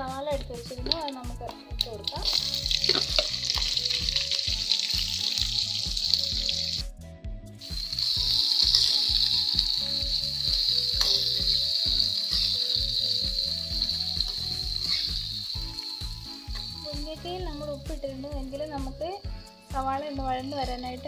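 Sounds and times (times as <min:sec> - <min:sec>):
onion sizzling in hot oil: 0:00.0 - 0:06.9, 0:07.6 - 0:21.0
background music with steady beat: 0:00.0 - 0:21.0.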